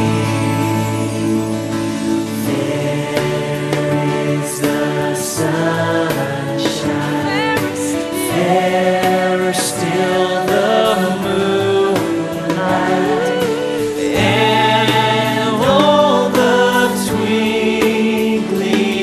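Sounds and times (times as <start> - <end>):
choir singing: 0.0 - 19.0
instrumental accompaniment: 0.0 - 19.0.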